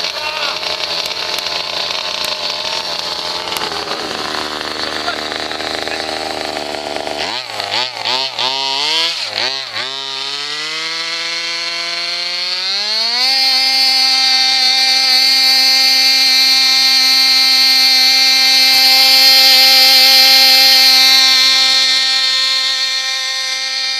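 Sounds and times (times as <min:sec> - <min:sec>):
rc car motor whining: 0:00.0 - 0:23.9.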